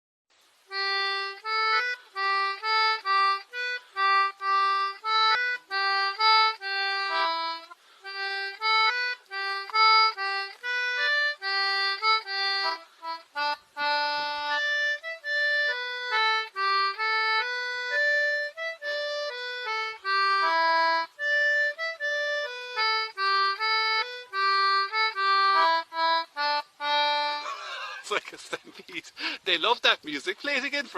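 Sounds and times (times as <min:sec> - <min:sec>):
accordion playing lively melody: 0:00.7 - 0:30.9.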